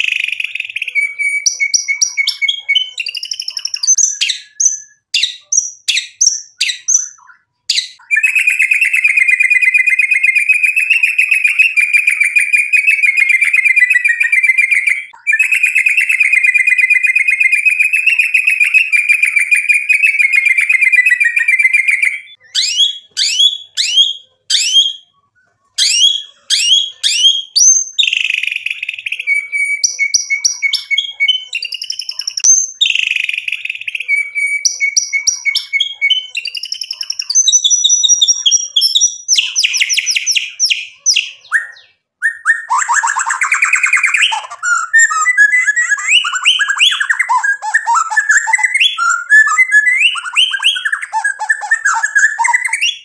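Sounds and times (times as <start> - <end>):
bird whistling and trilling: 0.0 - 53.0.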